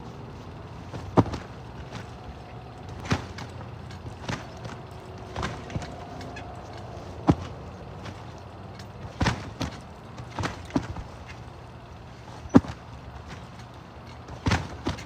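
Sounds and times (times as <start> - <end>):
trampoline bed thumping: 0.3 - 15.0.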